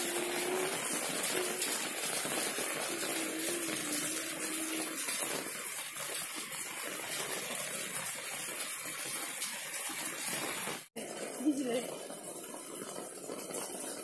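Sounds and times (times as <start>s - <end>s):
heavy rain on foliage: 0.0s - 14.0s.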